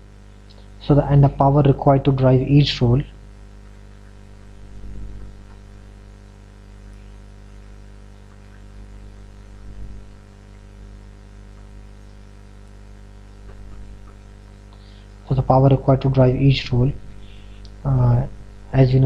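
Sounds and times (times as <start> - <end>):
electrical mains hum: 0.0 - 19.0
light hiss: 3.4 - 18.9.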